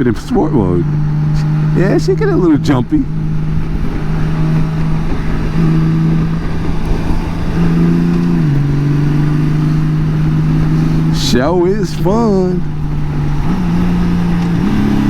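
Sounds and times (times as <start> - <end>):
heavy wind rush: 0.0 - 15.0
motorcycle engine hum: 0.0 - 15.0.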